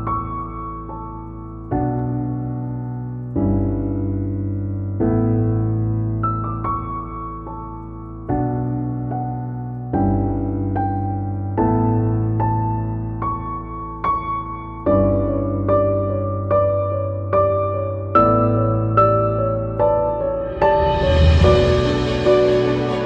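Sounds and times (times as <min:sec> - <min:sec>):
slow gentle piano music: 0:00.0 - 0:23.0.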